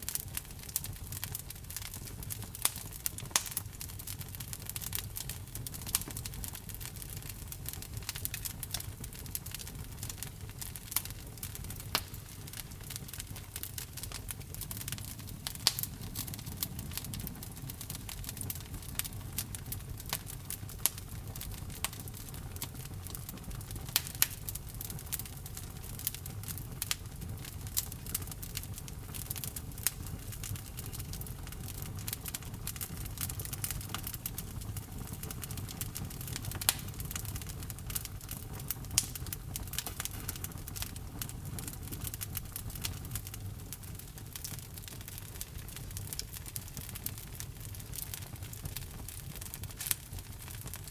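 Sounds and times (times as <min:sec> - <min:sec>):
low rumble of flames: 0:00.0 - 0:50.9
wood fire snaps and pops: 0:00.0 - 0:50.9.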